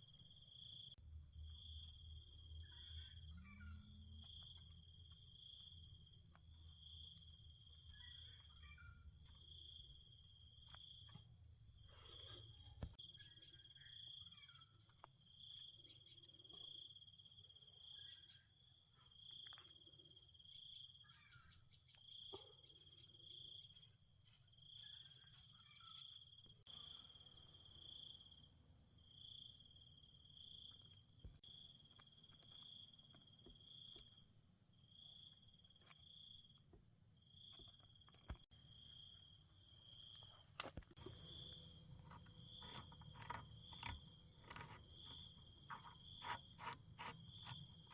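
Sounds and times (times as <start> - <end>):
insects trilling: 0.0 - 47.9
pulsing high insect chirp: 0.0 - 47.9.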